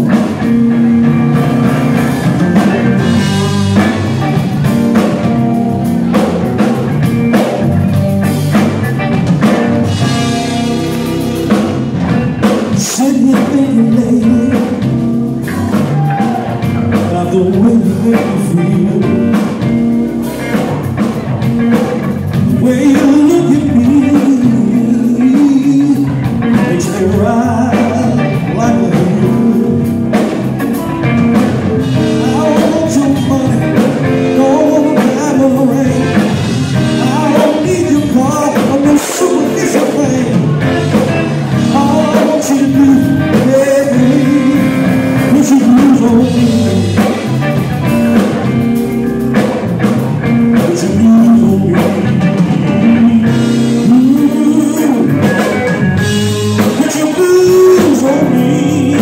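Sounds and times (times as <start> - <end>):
live blues band playing: 0.0 - 59.0.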